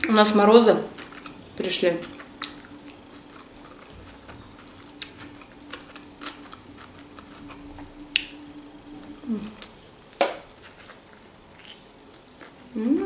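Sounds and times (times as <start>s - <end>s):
wet chewing and mouth clicks: 0.0s - 12.7s
faint steady hum: 0.0s - 13.0s.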